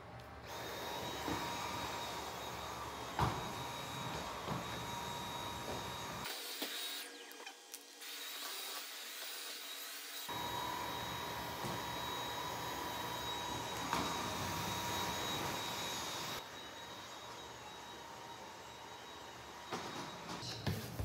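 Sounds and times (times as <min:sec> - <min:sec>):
cordless vacuum whining: 0:00.4 - 0:07.9, 0:10.2 - 0:20.5.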